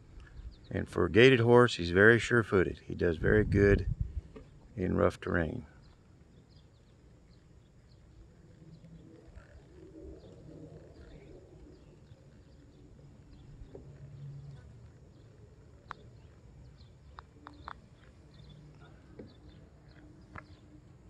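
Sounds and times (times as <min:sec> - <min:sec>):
low outdoor background: 0:00.0 - 0:21.0
bird calls and chirps: 0:00.2 - 0:01.2, 0:03.6 - 0:21.0.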